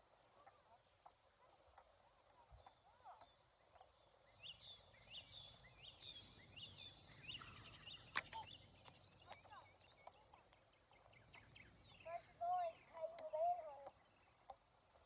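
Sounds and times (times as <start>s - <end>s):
faint bird chirps: 1.8s - 14.6s.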